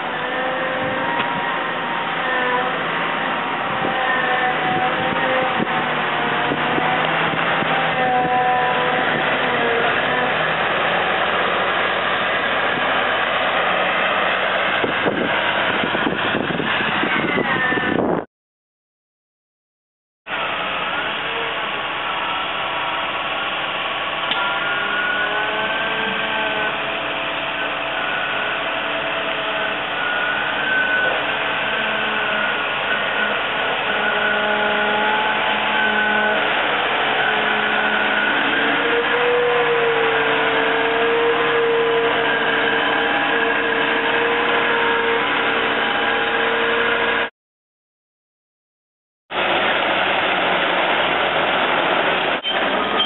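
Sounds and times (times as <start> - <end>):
diesel engine running under load: 0.0 - 18.2, 20.3 - 47.3, 49.3 - 53.0.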